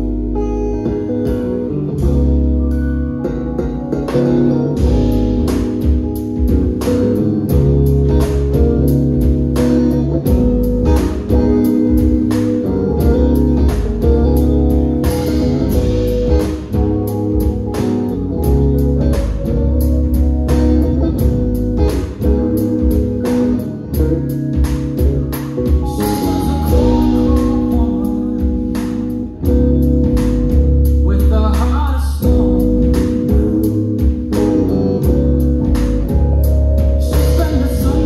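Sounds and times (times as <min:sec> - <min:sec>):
funk band playing: 0:00.0 - 0:38.0
heavy bass line: 0:00.0 - 0:38.0.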